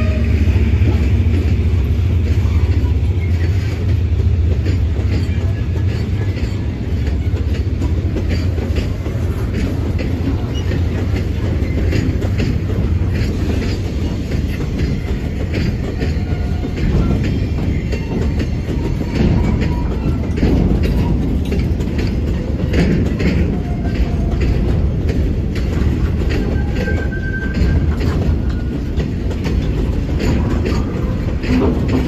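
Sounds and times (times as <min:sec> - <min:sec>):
freight train low rumble: 0:00.0 - 0:32.0
wheel clacks over rail joints: 0:00.0 - 0:32.0.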